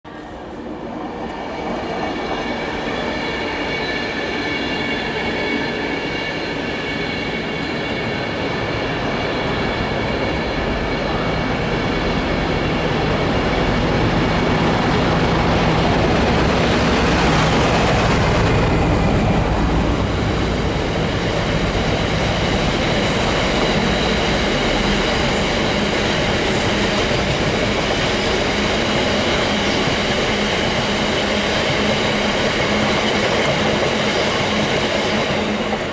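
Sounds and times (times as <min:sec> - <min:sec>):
diesel locomotive passing: 0:00.1 - 0:35.9.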